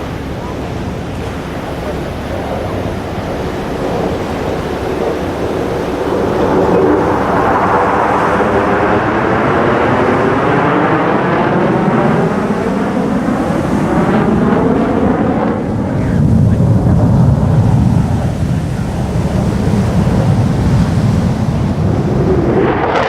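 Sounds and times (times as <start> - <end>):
jet roaring past: 0.0 - 23.0.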